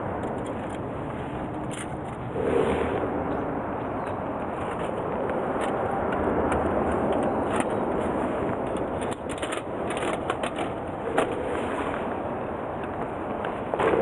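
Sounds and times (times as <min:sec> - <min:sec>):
campfire crackling and popping: 0:00.0 - 0:14.0
steady rushing noise: 0:00.0 - 0:14.0.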